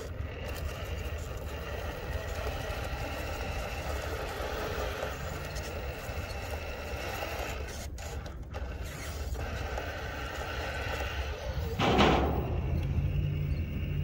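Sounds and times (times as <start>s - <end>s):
rc car motor whining: 0.0s - 14.0s.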